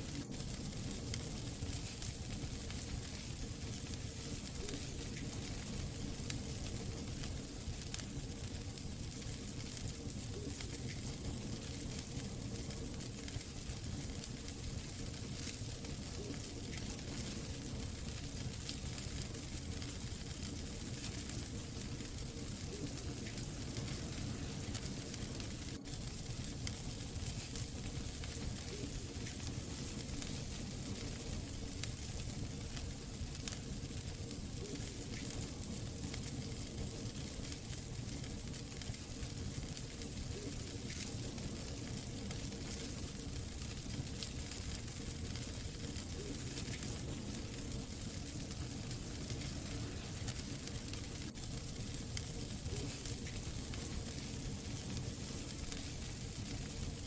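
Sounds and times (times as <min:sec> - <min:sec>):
hiss of fire flames: 0:00.0 - 0:57.0
logs crackling and popping: 0:00.0 - 0:57.0.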